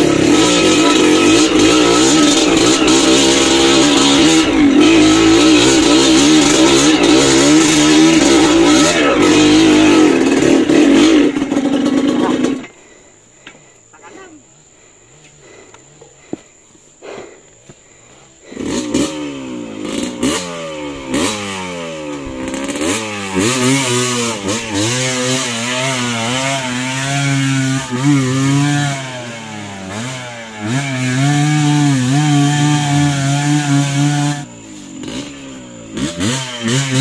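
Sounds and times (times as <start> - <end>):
motorcycle engine revving: 0.0 - 13.0, 18.2 - 37.0.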